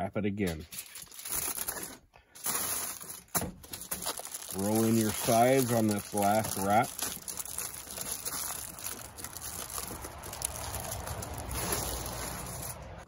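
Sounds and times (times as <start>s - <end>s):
aluminium foil crinkling: 0.4s - 13.0s.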